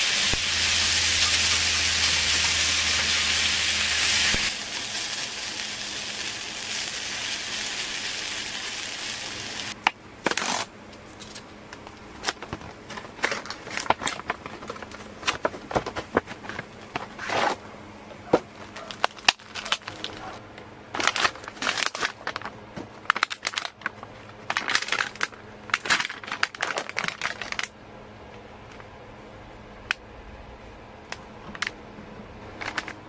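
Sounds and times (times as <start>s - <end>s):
plastic packaging crinkling: 0.1s - 17.6s, 18.7s - 27.7s, 32.6s - 33.0s.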